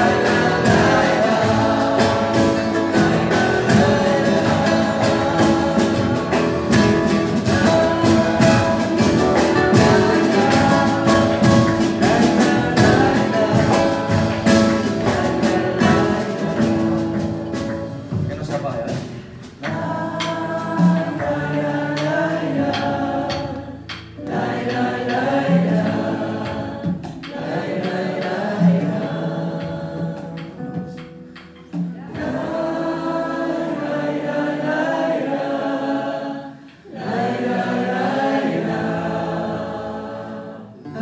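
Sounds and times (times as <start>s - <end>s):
voices singing in harmony: 0.0s - 18.1s, 19.3s - 41.0s
light percussion: 0.0s - 35.2s
acoustic guitars: 0.0s - 41.0s.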